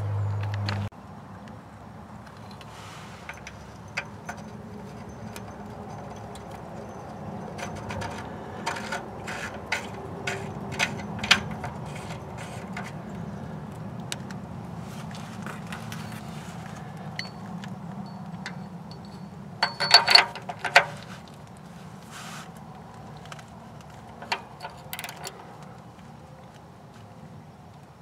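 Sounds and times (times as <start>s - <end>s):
light metal clicks and scrapes: 2.2s - 27.9s.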